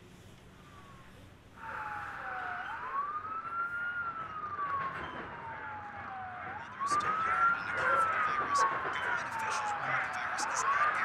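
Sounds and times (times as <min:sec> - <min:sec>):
noisy background: 0:00.0 - 0:11.0
wailing siren: 0:00.4 - 0:11.0.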